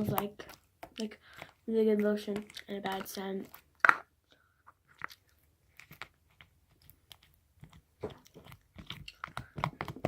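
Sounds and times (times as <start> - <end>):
slime clicking and crackling: 0.0 - 4.1, 4.9 - 10.0.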